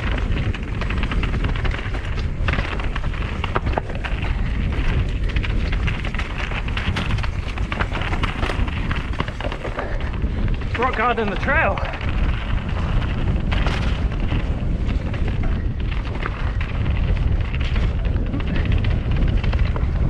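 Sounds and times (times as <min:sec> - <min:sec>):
bike clattering over bumps: 0:00.0 - 0:20.0
tyres rolling over rock and gravel: 0:00.0 - 0:20.0
wind rumbling on microphone: 0:00.0 - 0:20.0.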